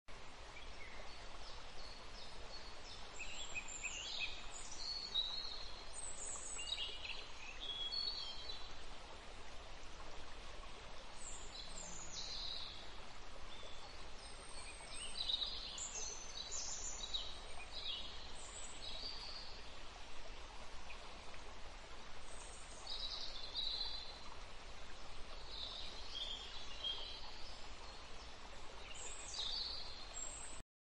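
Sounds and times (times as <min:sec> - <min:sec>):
stream rushing: 0:00.1 - 0:30.6.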